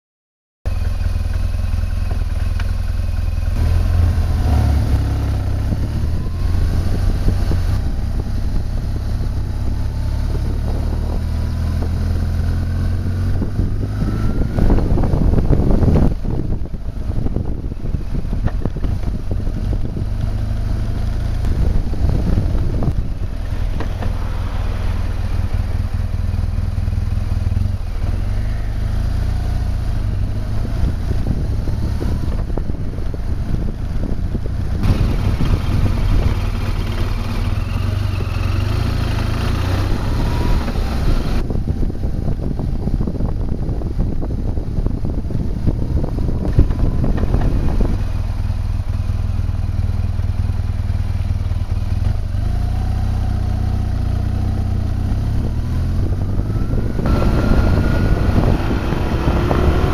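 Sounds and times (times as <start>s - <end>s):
motorcycle engine running: 0.7s - 59.9s
wind rumble on microphone: 3.2s - 59.9s.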